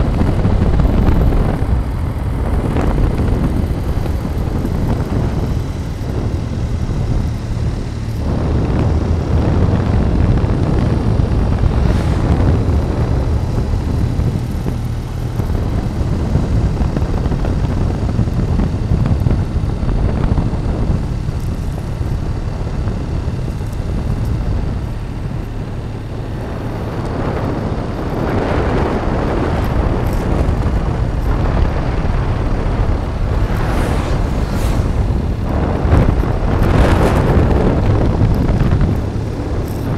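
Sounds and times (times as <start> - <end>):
motorcycle engine and tyres: 0.0 - 39.9
wind rush on microphone: 0.0 - 39.9.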